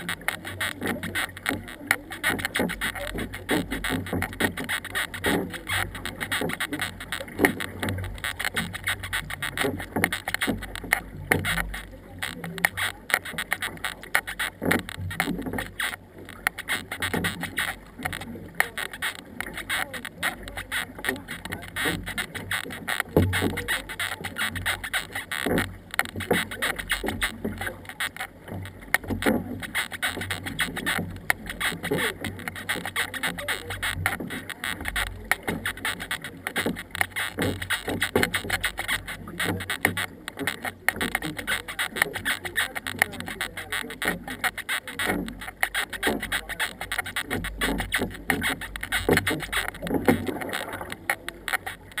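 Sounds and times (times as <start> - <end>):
paddles knocking hull: 0.0 - 52.0
paddles splashing water: 0.0 - 52.0.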